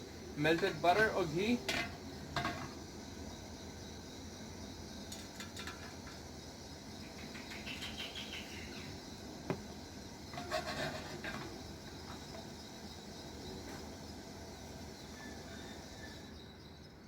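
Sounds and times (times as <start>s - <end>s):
steady hiss in a pan: 0.0s - 17.0s.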